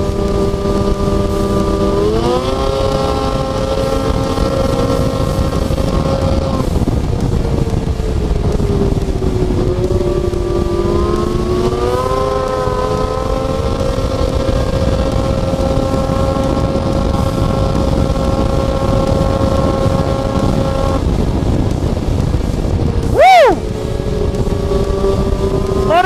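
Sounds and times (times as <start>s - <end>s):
snowmobile engine at speed: 0.0s - 26.0s
steady rushing noise: 0.0s - 26.0s.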